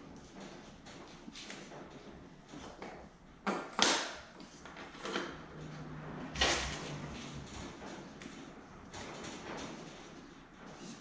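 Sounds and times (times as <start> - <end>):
wheel knocking and scraping: 0.0 - 11.0.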